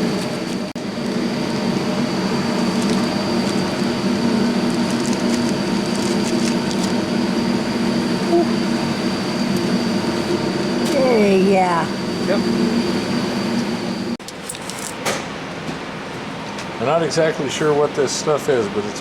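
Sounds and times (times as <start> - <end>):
mechanical hum with high whine: 0.0 - 19.0.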